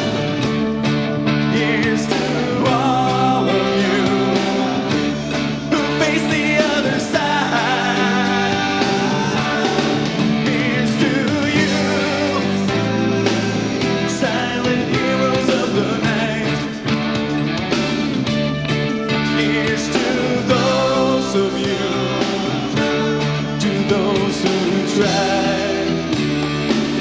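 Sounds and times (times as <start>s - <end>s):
pop song with synthesizer and singing: 0.0s - 17.8s, 18.8s - 27.0s.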